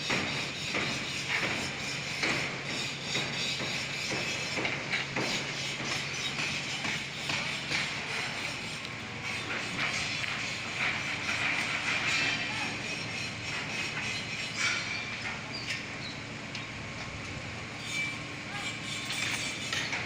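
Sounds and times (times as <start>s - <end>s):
construction knocks and clanks: 0.0s - 20.0s.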